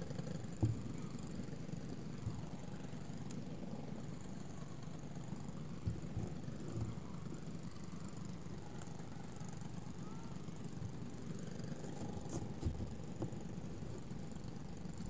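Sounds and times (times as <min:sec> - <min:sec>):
distant kart engines: 0:00.0 - 0:15.0.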